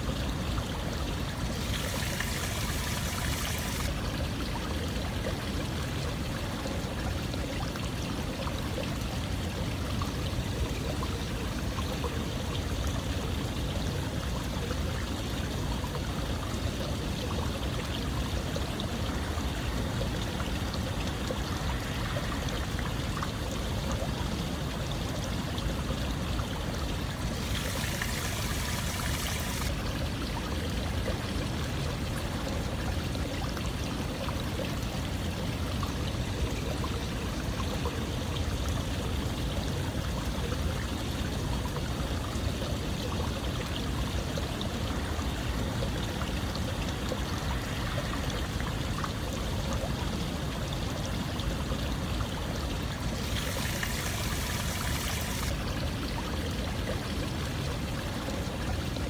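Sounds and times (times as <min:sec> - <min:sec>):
running water flowing: 0:00.0 - 0:39.4, 0:40.0 - 0:59.0.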